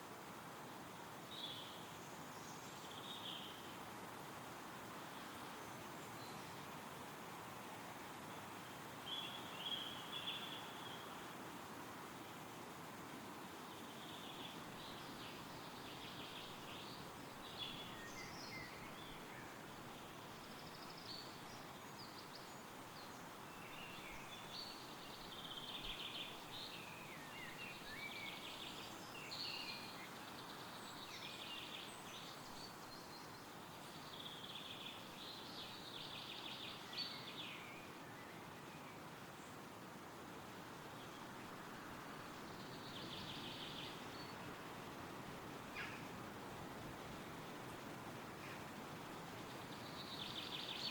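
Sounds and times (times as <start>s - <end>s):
wind rustling through trees: 0.0s - 50.9s
songbirds chirping and trilling: 8.0s - 11.5s, 13.2s - 50.9s.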